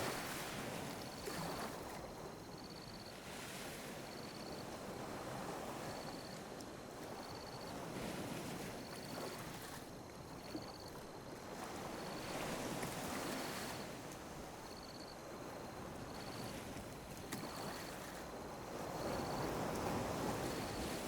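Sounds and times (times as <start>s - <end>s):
sea waves lapping on beach: 0.0s - 21.0s.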